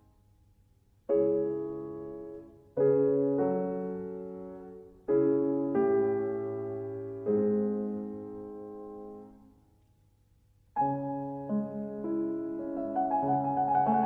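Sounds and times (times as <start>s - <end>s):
slow piano chords: 1.0s - 9.7s, 10.8s - 14.0s.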